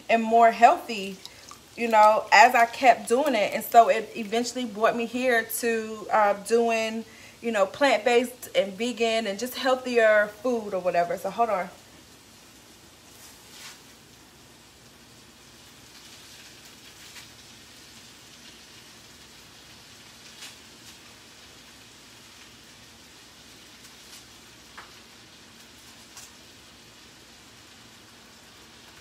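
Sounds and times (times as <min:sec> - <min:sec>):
vegetables sizzling in a pan: 0:00.0 - 0:29.0.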